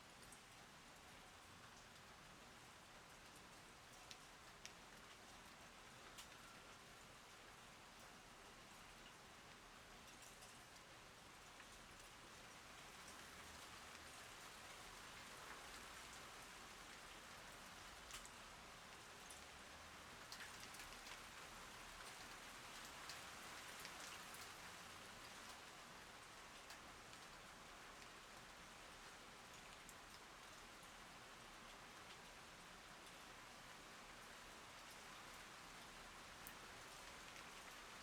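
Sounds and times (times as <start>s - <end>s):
rain falling: 0.1s - 38.0s.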